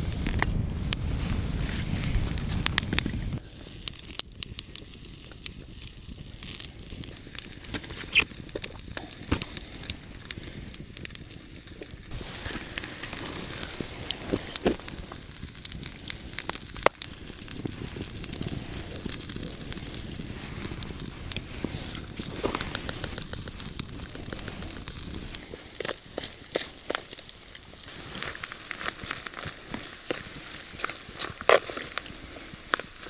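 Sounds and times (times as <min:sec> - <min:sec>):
bonfire crackling and popping: 0:00.0 - 0:33.0
steady hiss: 0:00.0 - 0:33.0.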